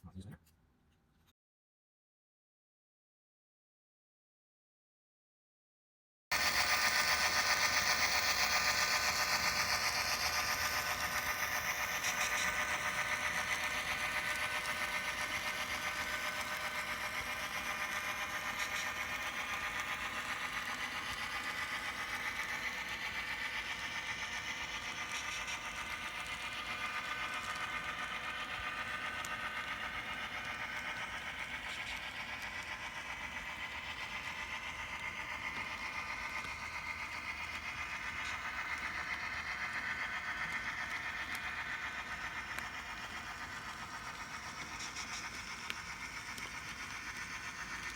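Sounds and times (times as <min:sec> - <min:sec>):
model train motor whine: 0:06.3 - 0:47.9.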